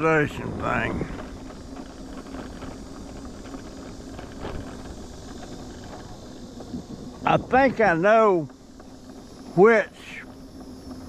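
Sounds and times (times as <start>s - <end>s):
vehicle road and engine hum: 0.0s - 11.0s.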